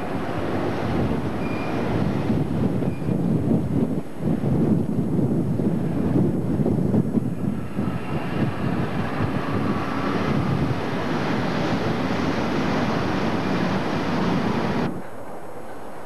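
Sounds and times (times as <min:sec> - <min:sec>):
diesel locomotive passing: 0:00.0 - 0:16.0
freight wagons rumbling over rails: 0:00.0 - 0:16.0.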